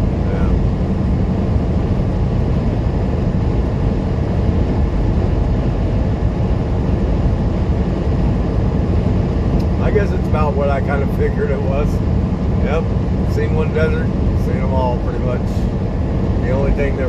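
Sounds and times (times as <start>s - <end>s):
road noise: 0.0s - 17.0s
truck engine drone: 0.0s - 17.0s.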